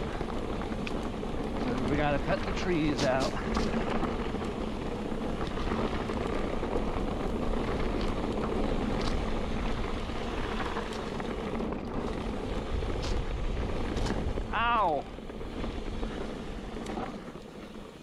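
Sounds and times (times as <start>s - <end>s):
bike tyres rolling on dirt: 0.0s - 18.0s.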